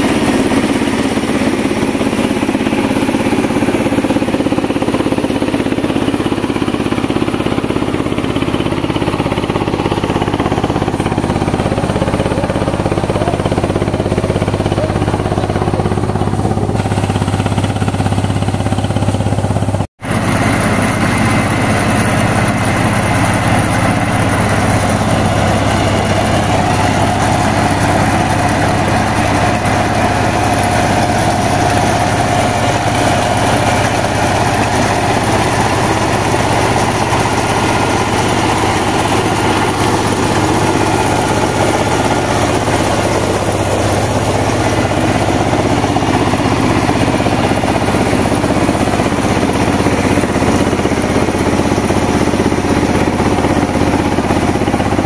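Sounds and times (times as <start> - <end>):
cutter and drum clattering: 0.0 - 55.0
harvester engine drone: 0.0 - 55.0.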